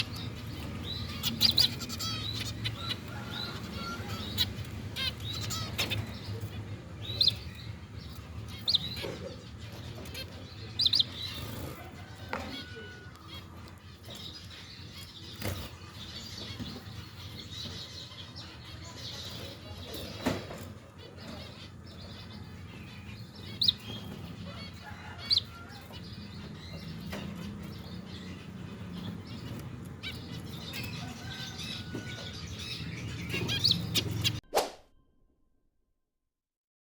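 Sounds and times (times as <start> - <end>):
finch chicks chattering: 0.0 - 34.4.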